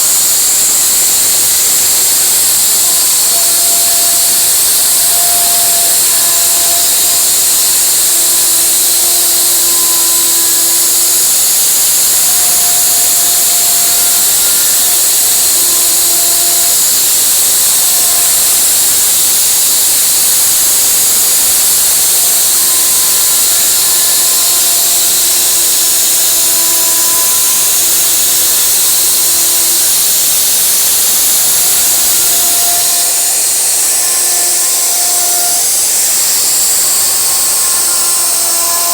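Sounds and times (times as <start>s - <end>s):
wood router cutting wood: 0.0s - 38.9s
short steady tones: 0.4s - 38.9s.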